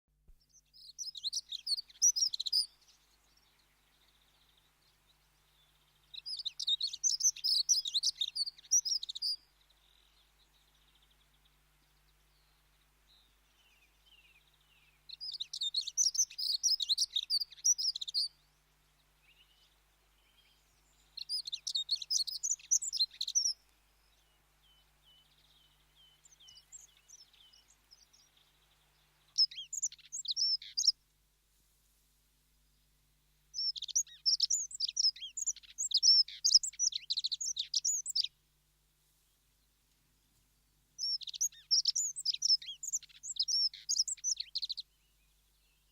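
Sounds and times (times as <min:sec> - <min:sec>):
faint thin bird chirps: 0:00.3 - 0:31.0, 0:33.5 - 0:38.4, 0:40.3 - 0:45.9
bird warbling song: 0:00.4 - 0:31.0, 0:33.5 - 0:38.4, 0:39.6 - 0:45.9.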